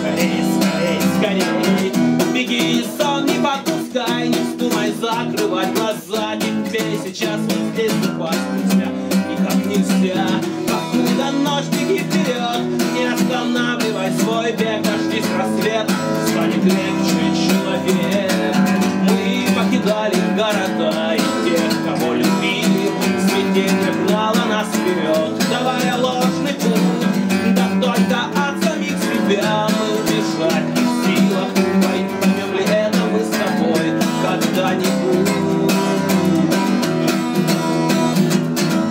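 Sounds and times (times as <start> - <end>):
acoustic guitar strumming: 0.0 - 38.9
man singing: 0.0 - 38.9.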